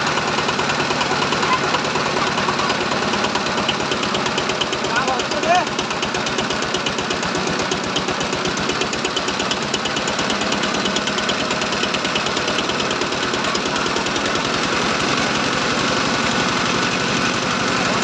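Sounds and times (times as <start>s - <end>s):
diesel engine knocking: 0.0s - 18.0s.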